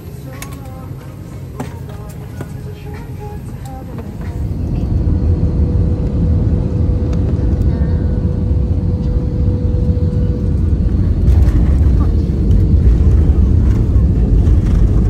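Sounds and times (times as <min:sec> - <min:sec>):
jet engine whine: 0:00.0 - 0:15.0
jet engines and wheels rumbling: 0:00.0 - 0:15.0.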